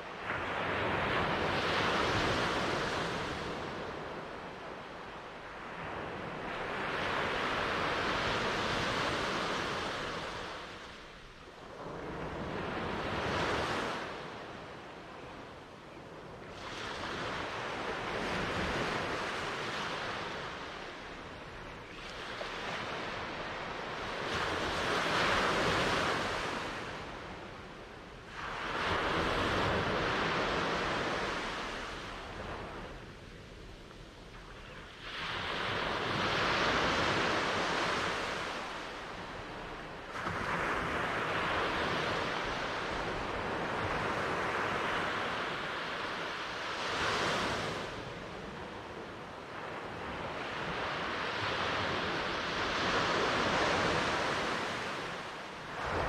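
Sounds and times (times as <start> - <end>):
ocean waves breaking on shore: 0.0 - 33.7, 34.6 - 56.0.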